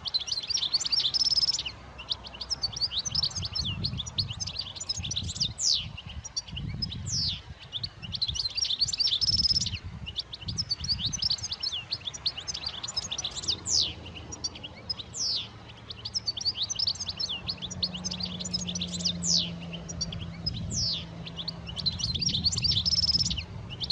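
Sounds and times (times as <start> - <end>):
finch twittering: 0.0 - 23.9.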